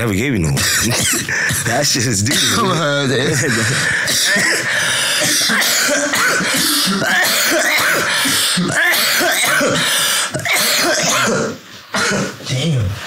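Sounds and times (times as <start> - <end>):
man coughing hard: 0.5 - 12.8.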